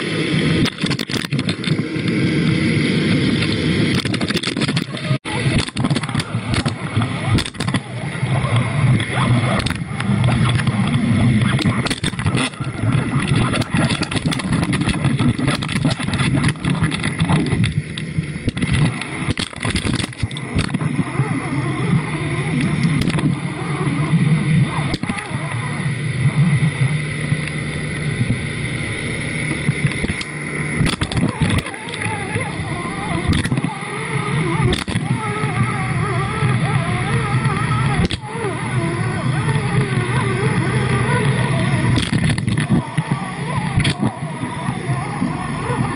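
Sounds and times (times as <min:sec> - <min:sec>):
muffled underwater rumble: 0:00.0 - 0:45.9
wavering whine: 0:00.0 - 0:45.9.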